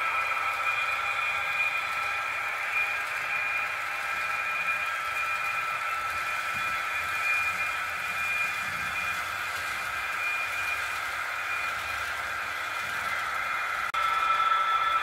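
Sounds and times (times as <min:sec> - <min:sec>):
electric motor whine: 0:00.0 - 0:15.0
wheels hissing on track: 0:00.0 - 0:15.0.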